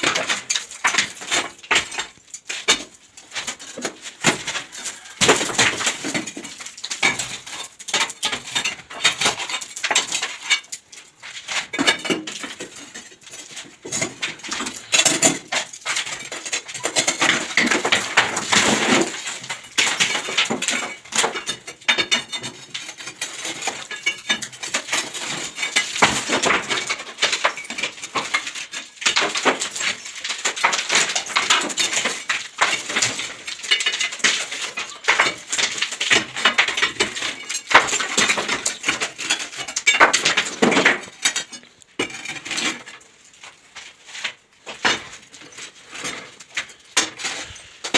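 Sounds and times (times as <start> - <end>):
tools clinking and knocking: 0.0 - 43.6.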